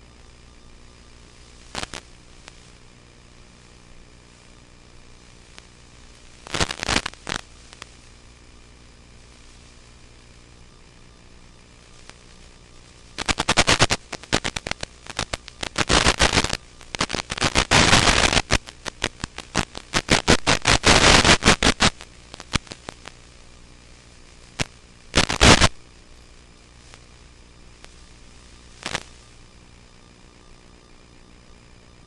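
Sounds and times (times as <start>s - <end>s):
radio static crackling: 0.0s - 32.0s.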